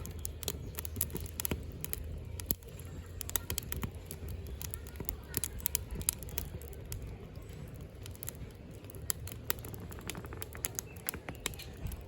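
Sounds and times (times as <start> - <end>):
firewood crackling and popping: 0.0 - 12.0
low steady fire rumble: 0.0 - 12.0.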